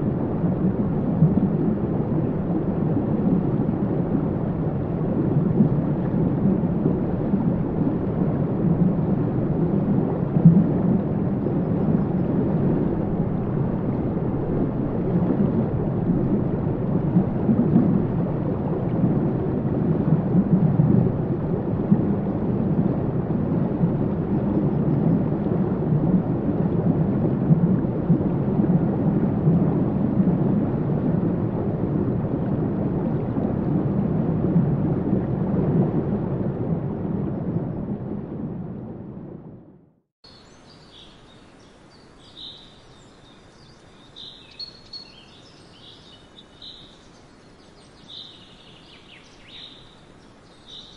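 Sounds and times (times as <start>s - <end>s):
underwater ambience: 0.0s - 50.9s.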